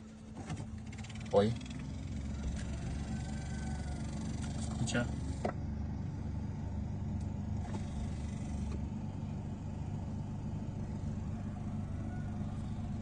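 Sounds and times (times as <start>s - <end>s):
abnormal fan noise: 0.0s - 13.0s
car blower fan humming: 0.0s - 13.0s.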